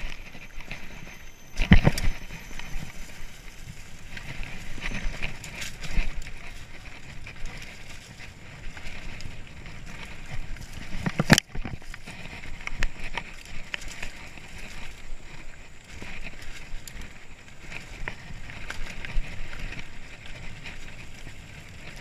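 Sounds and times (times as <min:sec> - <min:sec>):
bike rattles and clicks: 0:00.0 - 0:22.0
bike tyre and trail noise: 0:00.0 - 0:22.0.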